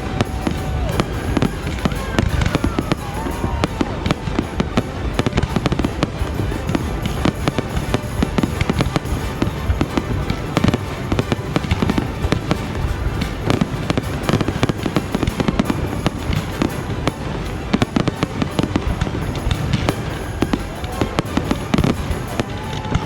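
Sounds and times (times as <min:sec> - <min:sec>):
firework whistling: 0:00.0 - 0:23.0
fireworks bangs and crackling: 0:00.0 - 0:23.0.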